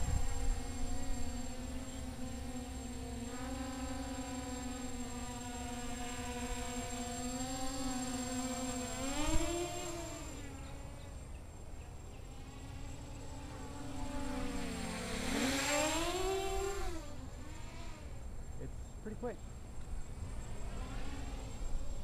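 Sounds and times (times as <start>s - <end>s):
quadcopter propeller buzz: 0.0s - 22.0s.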